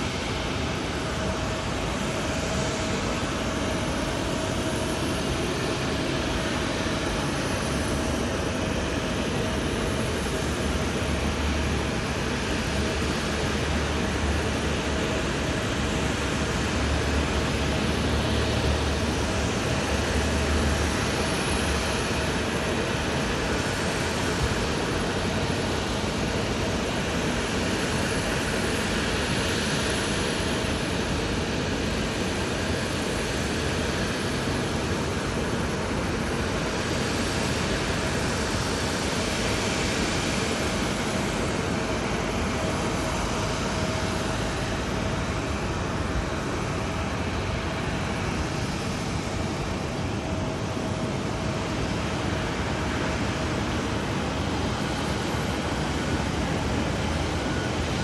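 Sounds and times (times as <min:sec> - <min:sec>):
jet airliner engine rush: 0:00.0 - 0:58.0.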